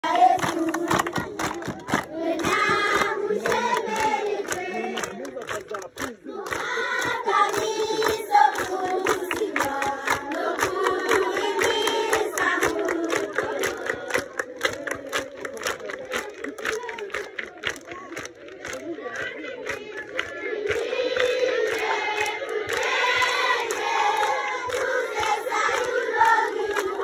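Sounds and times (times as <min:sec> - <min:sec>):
children singing together: 0:00.0 - 0:05.2, 0:06.3 - 0:15.0, 0:19.2 - 0:27.0
children clapping along: 0:00.0 - 0:27.0.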